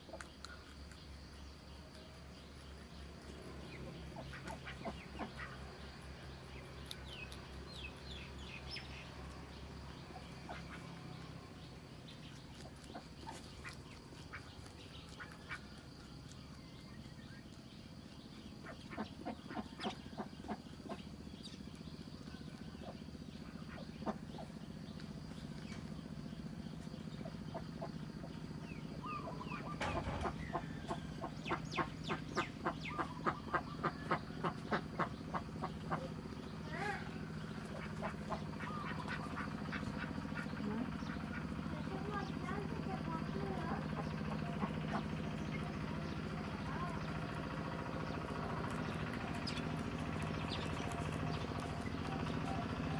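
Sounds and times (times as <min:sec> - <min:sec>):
rabbit chewing crunchy stems: 0:00.0 - 0:52.9.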